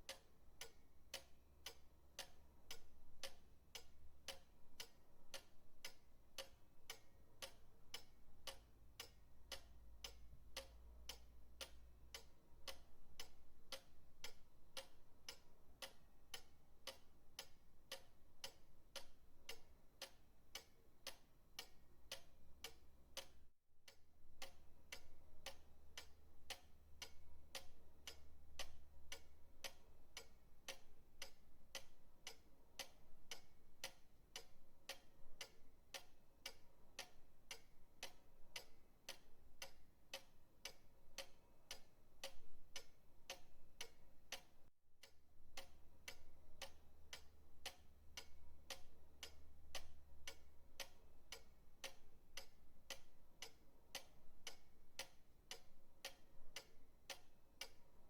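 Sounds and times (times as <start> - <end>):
pendulum clock ticking: 0.0 - 58.0.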